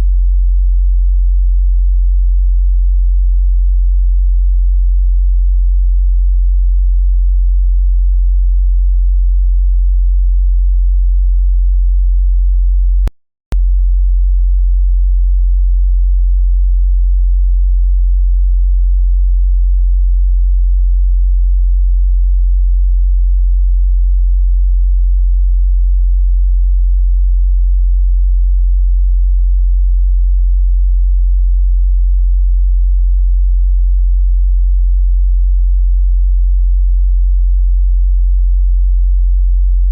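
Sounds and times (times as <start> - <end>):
low bass test tone: 0.0 - 39.9.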